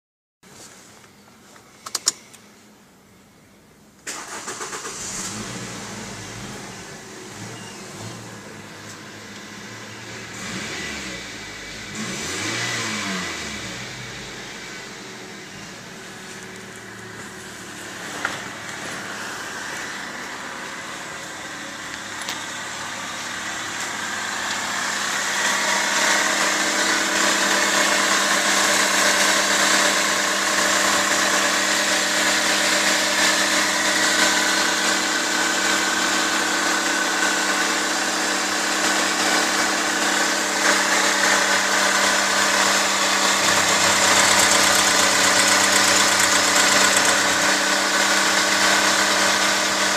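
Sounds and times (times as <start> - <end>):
car engine idling: 3.7 - 49.9.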